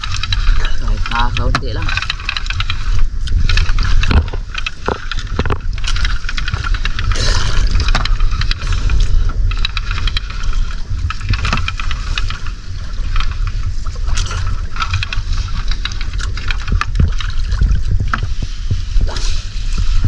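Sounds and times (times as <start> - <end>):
fishing net clicks and scrapes: 0.0 - 20.0
low rumble: 0.0 - 20.0
water splashing against boat hull: 0.0 - 20.0.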